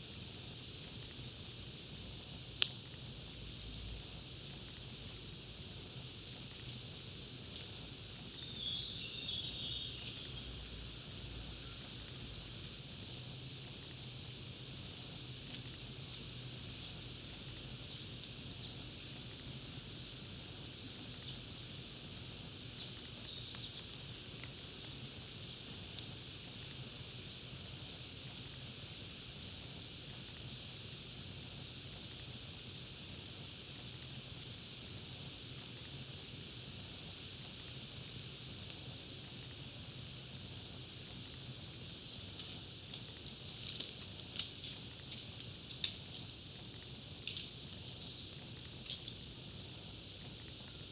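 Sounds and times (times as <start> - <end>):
crackling campfire: 0.0 - 50.9.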